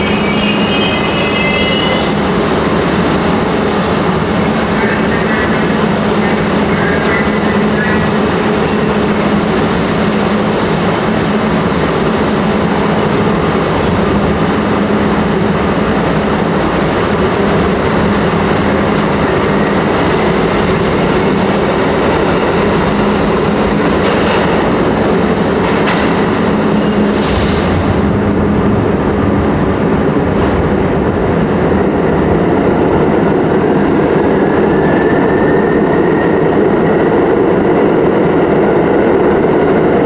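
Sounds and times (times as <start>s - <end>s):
subway train rumbling on track: 0.0s - 40.0s.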